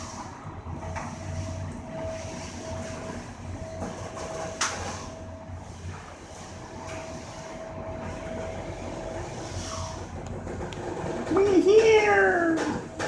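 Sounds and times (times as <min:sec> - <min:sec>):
elevator running with high whine: 0:00.0 - 0:13.0.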